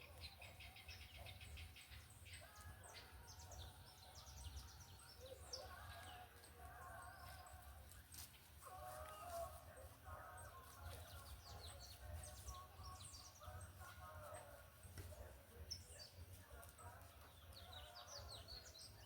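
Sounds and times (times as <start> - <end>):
faint birdsong chirps: 0.0 - 19.0.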